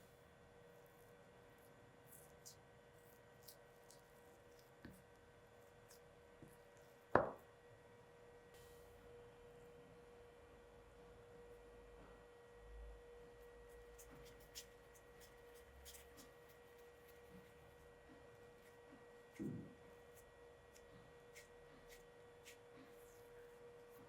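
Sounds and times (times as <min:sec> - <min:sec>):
faint high hum: 0:00.0 - 0:24.0.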